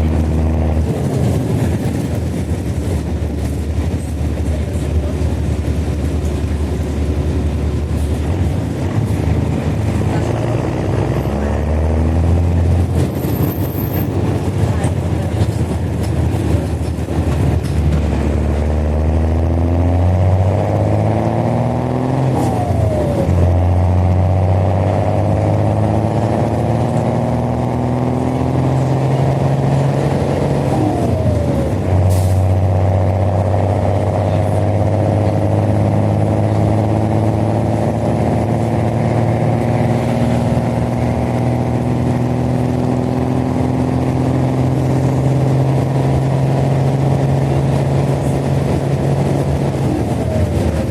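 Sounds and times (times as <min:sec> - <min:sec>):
bus diesel engine accelerating: 0:00.0 - 0:50.9.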